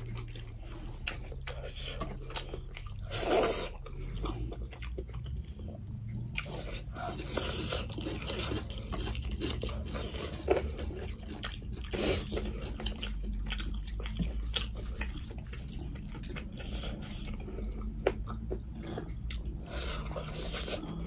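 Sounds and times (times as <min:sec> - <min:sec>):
steady low hum: 0:00.0 - 0:21.0
wet chewing and lip smacks: 0:00.0 - 0:21.0.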